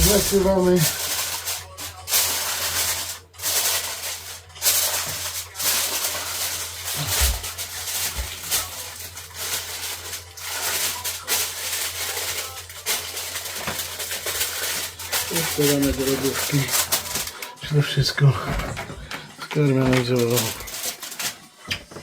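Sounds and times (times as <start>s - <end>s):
plastic wrap crinkling: 0.0s - 22.0s.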